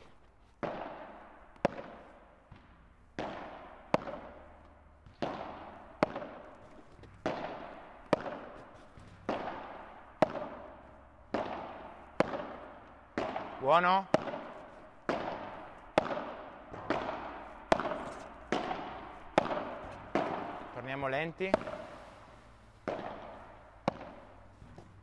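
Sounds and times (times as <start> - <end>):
rackets hitting ball with echo: 0.0 - 25.0.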